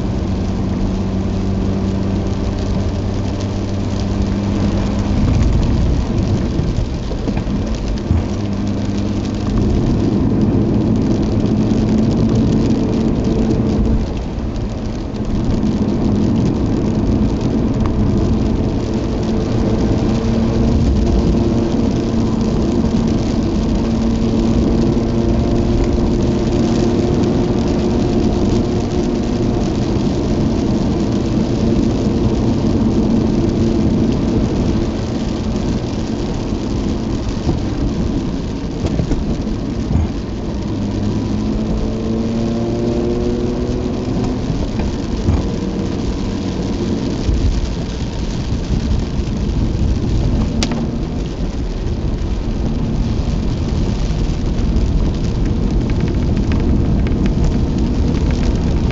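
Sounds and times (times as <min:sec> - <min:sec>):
tyres and rain rumble: 0:00.0 - 0:58.9.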